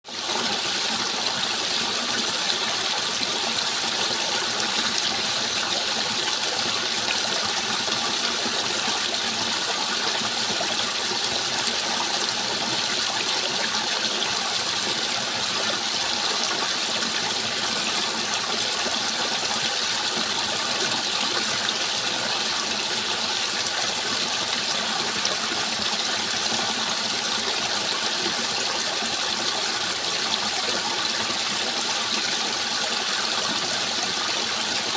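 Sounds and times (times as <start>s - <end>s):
water flowing: 0.1s - 34.9s.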